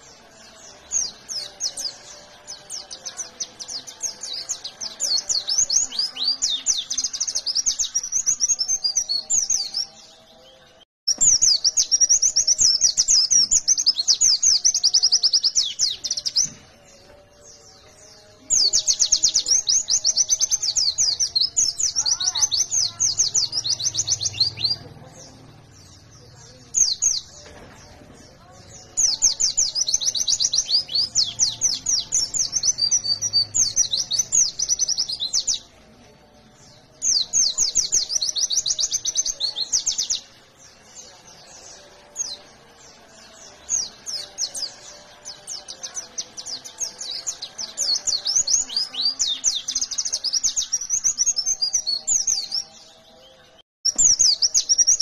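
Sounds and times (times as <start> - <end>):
bird shrill chirping song: 0.0 - 55.0.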